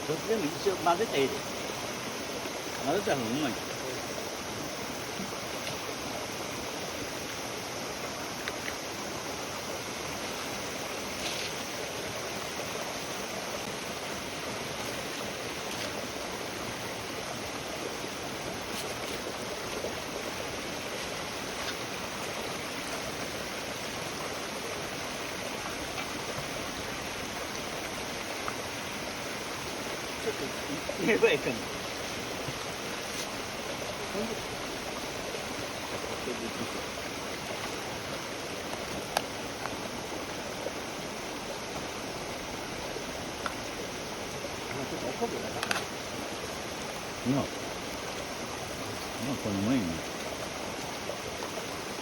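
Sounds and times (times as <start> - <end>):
steady rushing hiss: 0.0 - 52.0.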